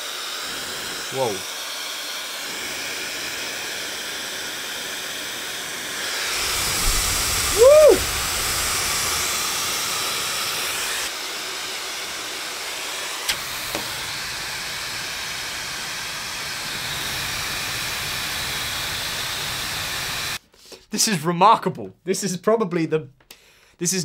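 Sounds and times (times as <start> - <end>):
hair dryer blowing air: 0.0 - 20.4.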